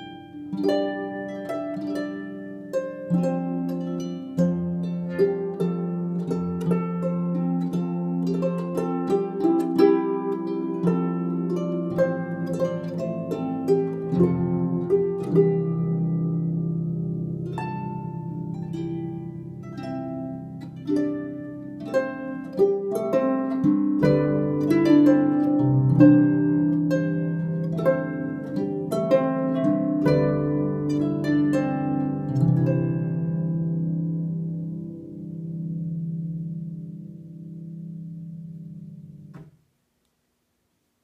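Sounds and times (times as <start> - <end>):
harp plucked notes: 0.0 - 39.6.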